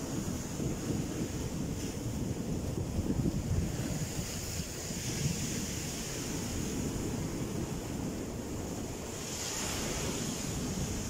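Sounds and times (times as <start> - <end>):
sea surf breaking on rocks: 0.0 - 11.0.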